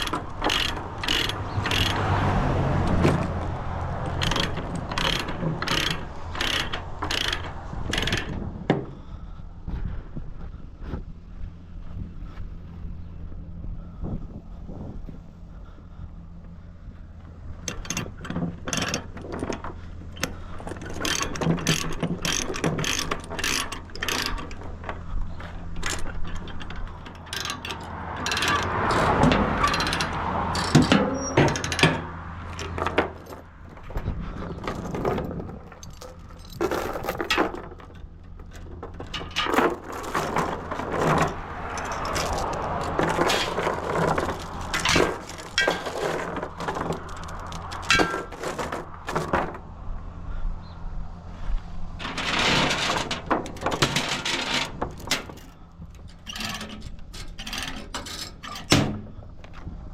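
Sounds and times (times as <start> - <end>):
clicks rattles and clanks: 0.0 - 9.2, 17.6 - 49.7, 52.0 - 59.7
low engine drone: 0.0 - 57.3.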